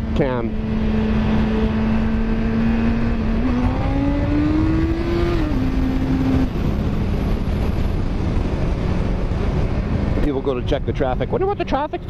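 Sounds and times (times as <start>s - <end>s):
motorcycle engine revving: 0.0s - 12.0s
wind rush on microphone: 0.0s - 12.0s.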